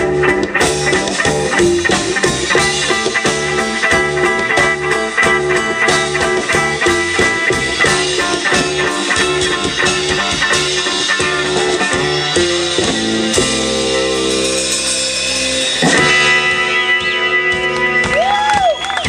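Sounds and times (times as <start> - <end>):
electric guitar chords ringing: 0.0 - 18.8.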